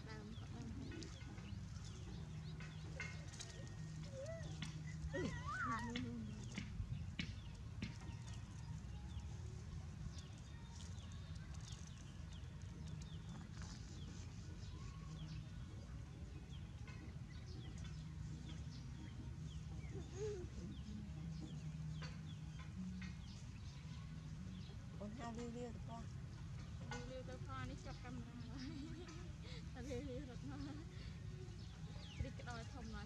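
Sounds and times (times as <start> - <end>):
rustling of dry leaves: 0.0 - 33.0.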